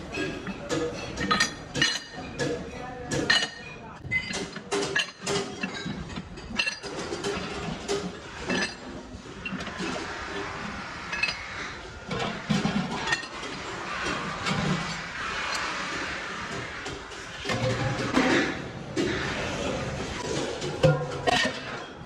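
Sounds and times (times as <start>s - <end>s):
steady workshop noise: 0.0s - 22.0s.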